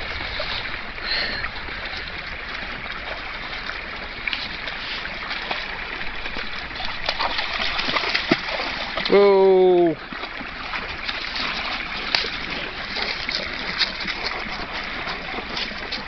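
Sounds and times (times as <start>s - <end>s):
dogs splashing through water: 0.0s - 16.0s
stream running over stones: 0.0s - 16.0s.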